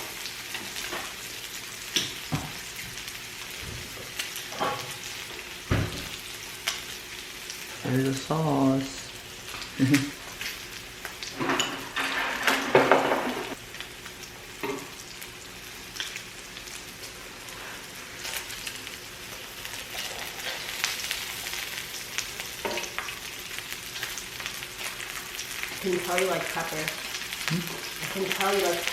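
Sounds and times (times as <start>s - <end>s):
pork sizzling on a grill: 0.0s - 28.9s.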